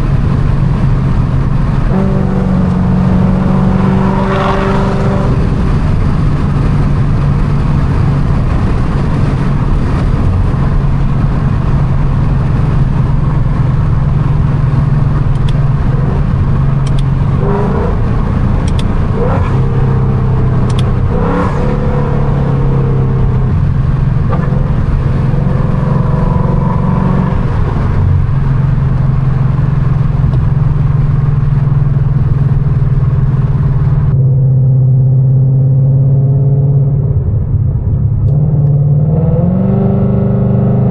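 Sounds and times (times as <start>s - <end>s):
car engine running hard: 0.0s - 40.9s.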